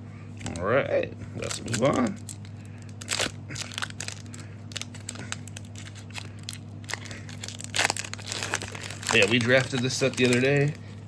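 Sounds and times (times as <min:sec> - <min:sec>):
foil pack crinkling: 0:01.3 - 0:11.0
foil pack tearing: 0:01.4 - 0:10.8.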